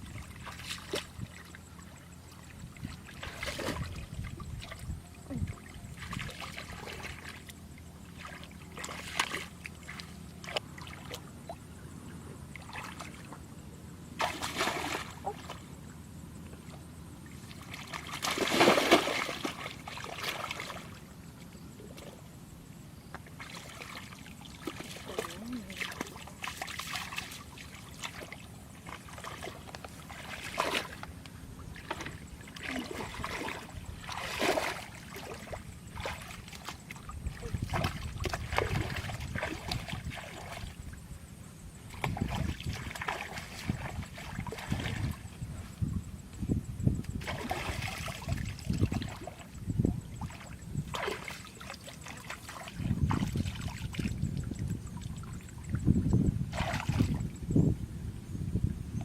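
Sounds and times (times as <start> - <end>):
water splashing and sloshing: 0.0 - 11.8, 12.4 - 22.3, 23.1 - 57.6.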